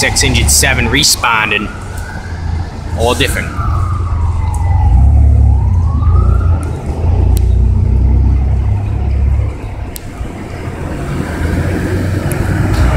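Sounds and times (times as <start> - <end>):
fire truck siren: 0.0 - 12.9
low rumble: 1.7 - 12.9.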